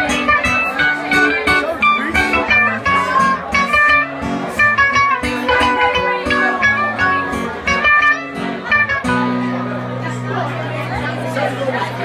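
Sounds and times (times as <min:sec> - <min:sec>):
double bass line: 0:00.0 - 0:12.0
string band playing: 0:00.0 - 0:12.0.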